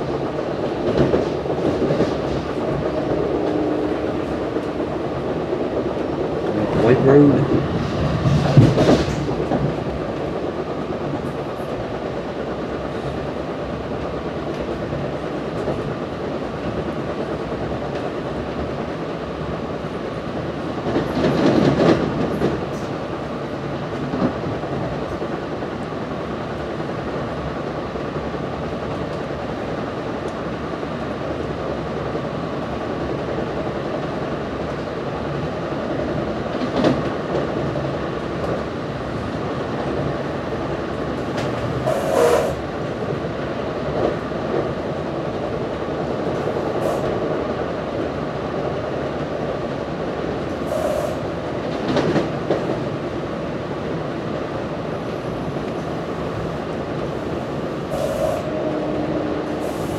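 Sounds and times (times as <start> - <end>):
train rushing sound: 0.0 - 25.4, 34.6 - 59.9
train wheels rumbling on rail: 0.0 - 59.9.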